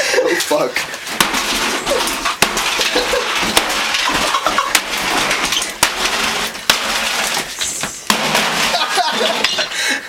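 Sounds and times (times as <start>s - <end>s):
background clatter: 0.4s - 10.0s.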